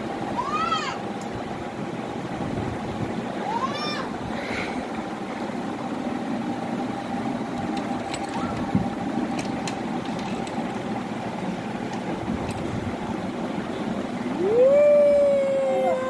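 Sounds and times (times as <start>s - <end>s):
machine hum with constant tone: 0.0s - 16.0s.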